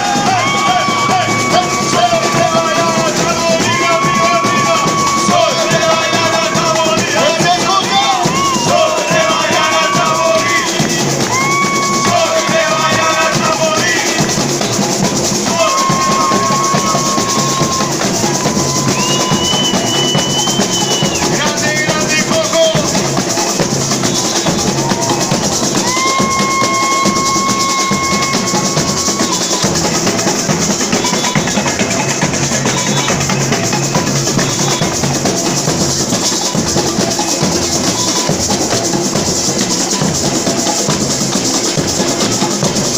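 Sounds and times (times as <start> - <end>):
samba percussion drumming: 0.0 - 42.9.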